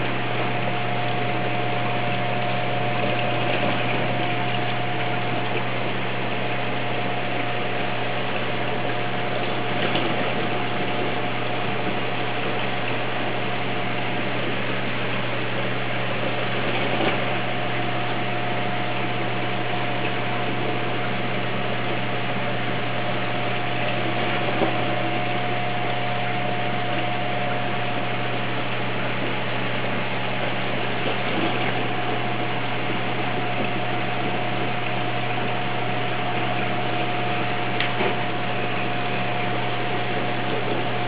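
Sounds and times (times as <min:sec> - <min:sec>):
aquarium pumps humming: 0:00.0 - 0:41.0
thin constant whine: 0:00.0 - 0:41.0.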